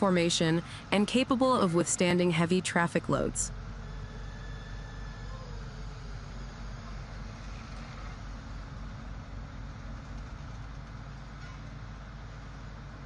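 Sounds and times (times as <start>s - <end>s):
paving machinery engines rumbling: 0.0s - 13.0s.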